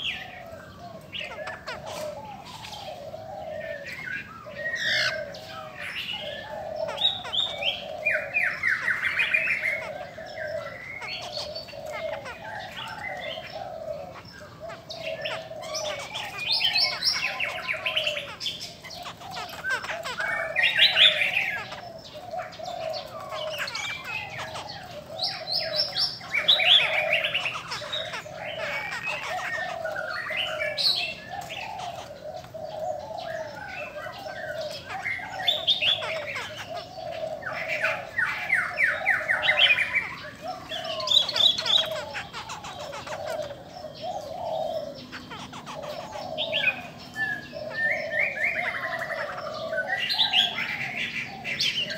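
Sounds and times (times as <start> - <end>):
birds whistling: 0.0 - 51.9.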